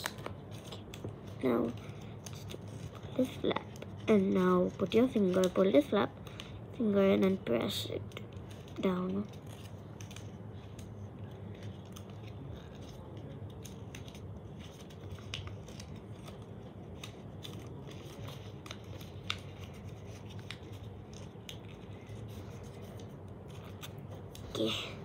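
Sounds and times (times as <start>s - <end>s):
paper crinkling and creasing: 0.0s - 25.0s
steady low hum: 0.0s - 25.0s.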